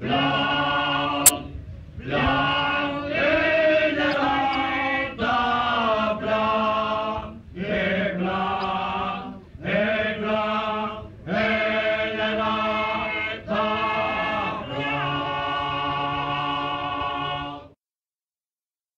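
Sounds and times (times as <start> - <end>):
group singing folk song: 2.1 - 17.8.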